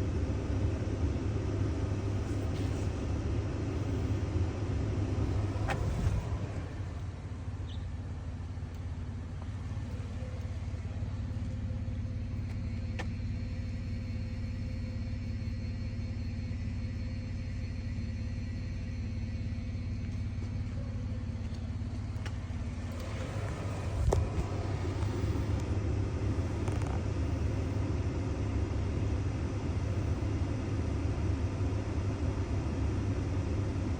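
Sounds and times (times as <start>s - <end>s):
motor vehicle engine rumbling: 0.0s - 33.9s.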